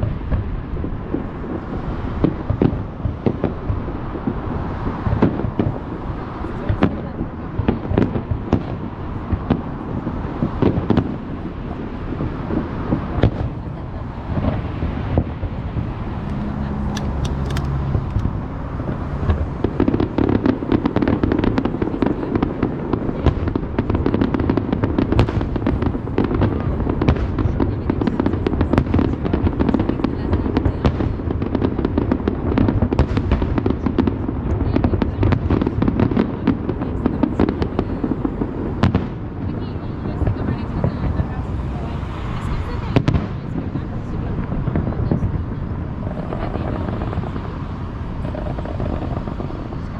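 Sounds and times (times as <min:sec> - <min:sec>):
fireworks bursting: 0:00.0 - 0:49.9
fireworks crackling: 0:00.0 - 0:49.9.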